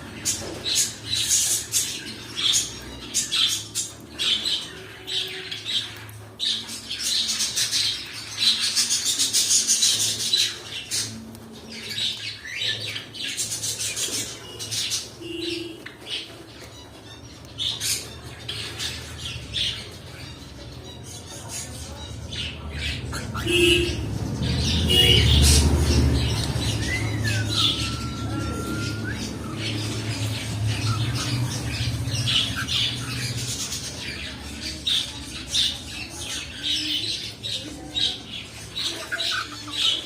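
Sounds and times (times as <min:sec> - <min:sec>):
cockatiels squawking and chirping: 0:00.0 - 0:40.0.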